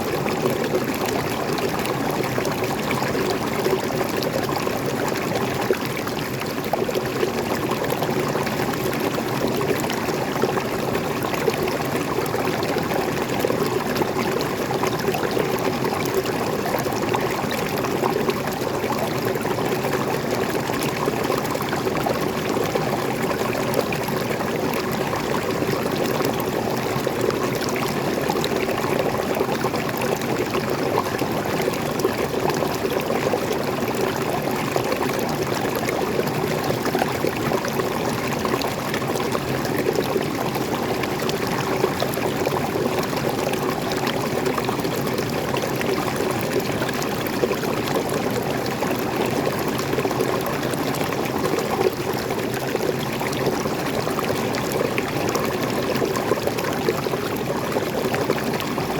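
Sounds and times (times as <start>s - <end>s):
small waterfall pouring: 0.0s - 58.9s.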